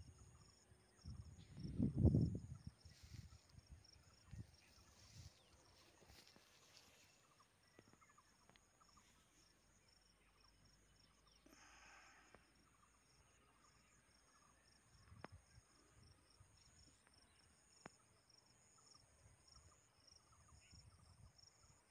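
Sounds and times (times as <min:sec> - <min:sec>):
faint insect chirping: 0:00.0 - 0:21.9.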